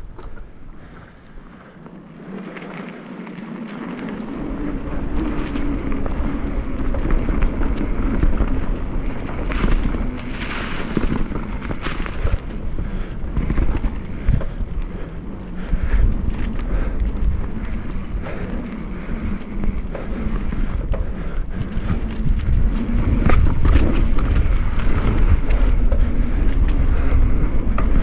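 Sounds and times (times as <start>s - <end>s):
bike clicks and rattles: 0.0s - 28.0s
bike tyres rumbling on dirt: 0.0s - 28.0s
wind buffeting microphone: 3.0s - 28.0s.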